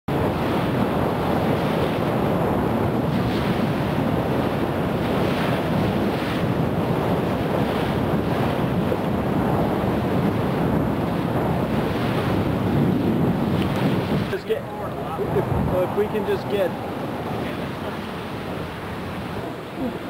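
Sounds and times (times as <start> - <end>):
choppy sea waves: 0.1 - 20.0
strong wind on microphone: 0.1 - 20.0.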